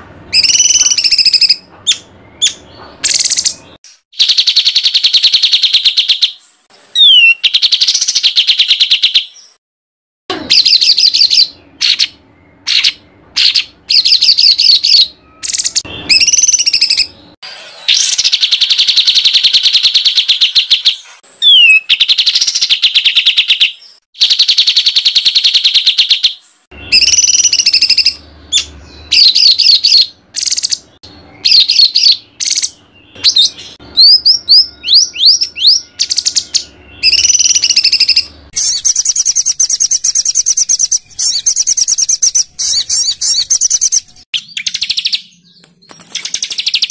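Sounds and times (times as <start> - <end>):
songbird singing harsh trills: 0.3 - 9.6, 10.3 - 17.2, 17.9 - 46.9.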